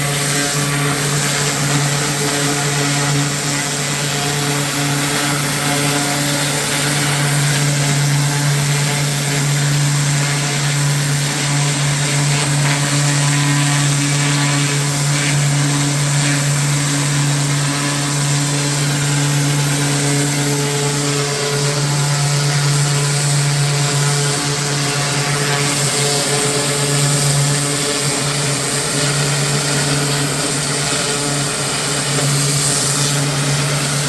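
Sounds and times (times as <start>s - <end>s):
small engine machine humming: 0.0s - 34.0s.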